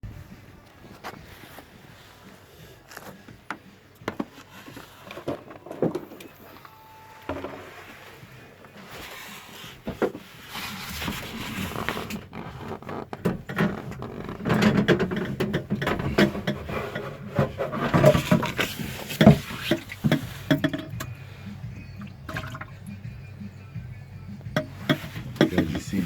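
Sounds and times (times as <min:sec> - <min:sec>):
knocks and scrapes of handling: 0:00.8 - 0:06.4, 0:07.3 - 0:22.7, 0:24.5 - 0:26.0.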